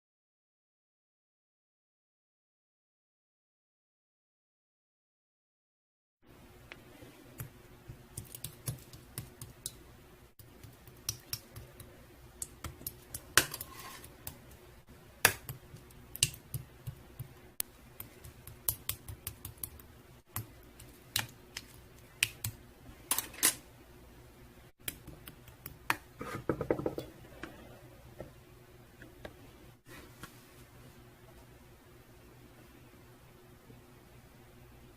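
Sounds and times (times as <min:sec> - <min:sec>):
low steady hum: 0:06.3 - 0:34.9.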